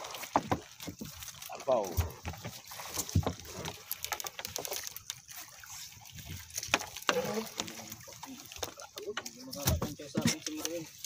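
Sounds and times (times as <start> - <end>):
water sloshing: 0.0 - 11.0
wet net clicking and rustling: 0.0 - 11.0.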